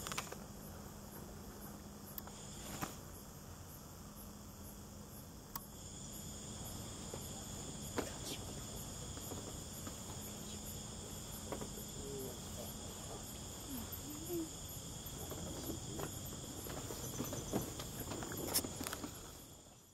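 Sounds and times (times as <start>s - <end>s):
higher pulsing insect call: 0.0s - 19.9s
night insects chirring: 0.0s - 19.9s.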